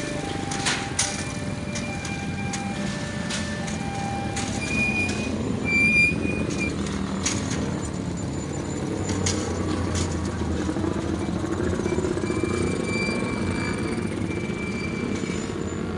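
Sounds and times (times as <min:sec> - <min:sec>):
passing vehicle rumble: 0:00.0 - 0:15.9.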